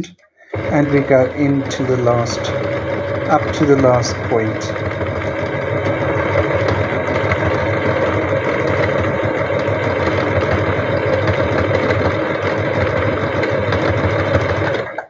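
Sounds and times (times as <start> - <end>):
electric sewing machine running: 0.4 - 15.0.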